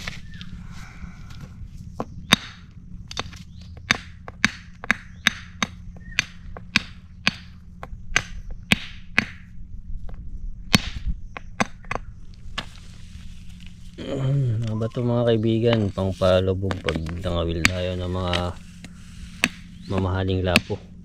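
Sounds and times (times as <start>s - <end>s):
low hum: 0.0s - 21.0s
stones knocking together: 2.0s - 12.8s, 14.7s - 20.9s.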